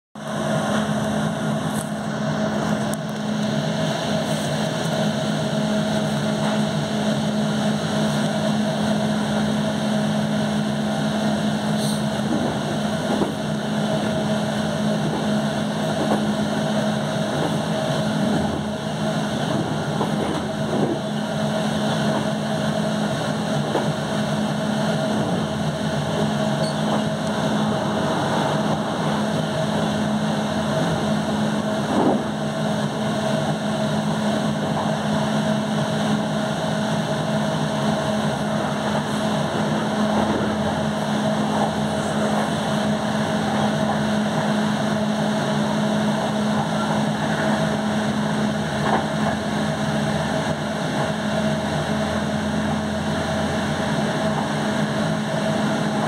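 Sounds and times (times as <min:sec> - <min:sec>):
electric train hum: 0:00.2 - 0:56.0
wheel and rail rumble: 0:00.2 - 0:56.0.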